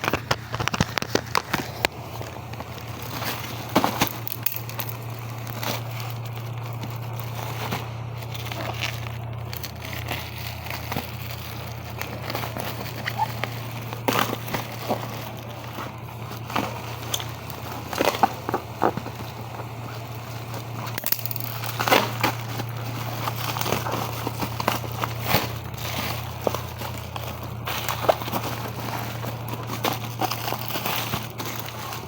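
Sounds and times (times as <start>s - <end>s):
plastic packaging crinkling: 0.0s - 32.0s
steady low hum: 0.0s - 32.0s.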